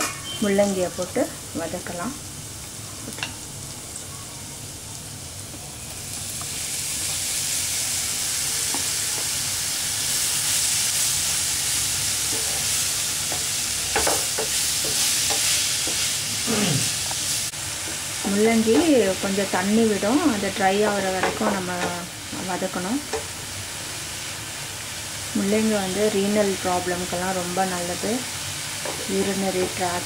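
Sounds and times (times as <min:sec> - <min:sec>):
spices sizzling in hot oil: 0:00.0 - 0:30.0.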